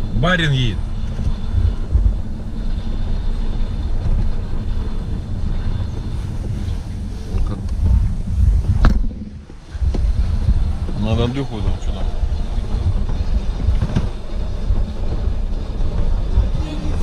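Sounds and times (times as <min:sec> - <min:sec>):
car engine and tyre rumble: 0:00.0 - 0:17.0
wind noise: 0:00.0 - 0:17.0.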